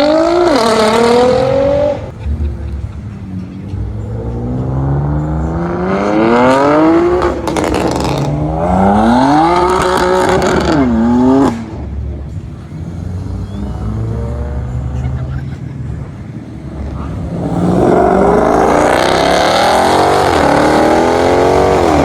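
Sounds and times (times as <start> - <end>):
car engine revving: 0.0 - 22.0
exhaust crackling: 0.0 - 22.0.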